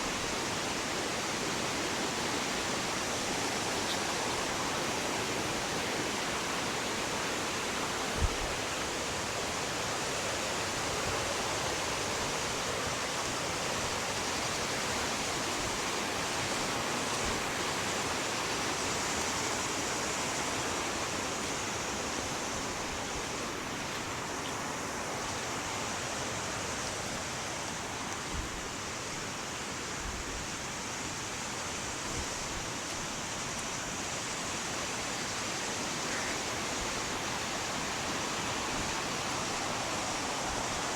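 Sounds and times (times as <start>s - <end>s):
fast-flowing river rushing: 0.0s - 40.9s.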